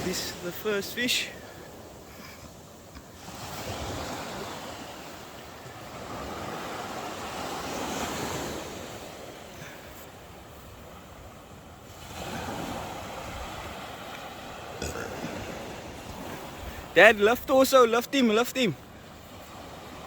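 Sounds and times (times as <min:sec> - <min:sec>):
ocean surf washing in: 0:00.0 - 0:20.0.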